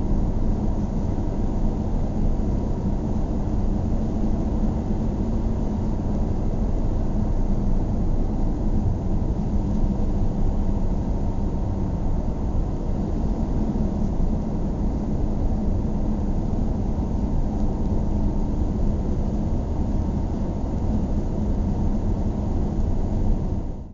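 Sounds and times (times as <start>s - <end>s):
faint engine hum: 0.0s - 23.9s.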